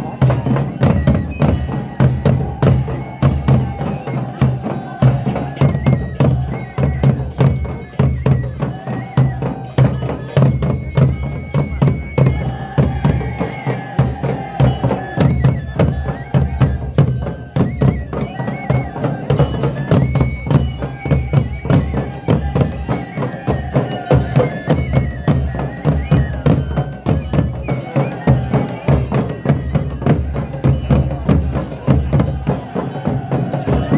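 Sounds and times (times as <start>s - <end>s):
fast drum beat: 0.0s - 33.9s.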